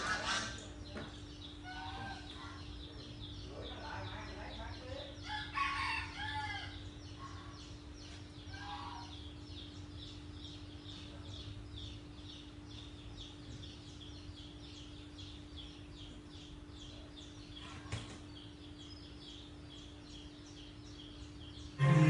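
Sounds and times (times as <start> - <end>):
bird chirping: 0.0 - 22.0
steady low hum: 0.0 - 22.0.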